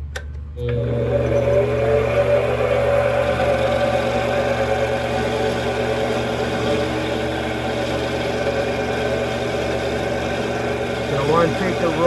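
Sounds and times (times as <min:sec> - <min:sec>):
metal lathe motor humming: 0:00.6 - 0:12.0.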